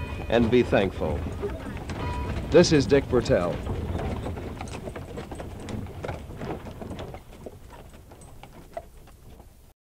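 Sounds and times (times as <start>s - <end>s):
horse hooves clip-clopping: 0.0s - 9.7s.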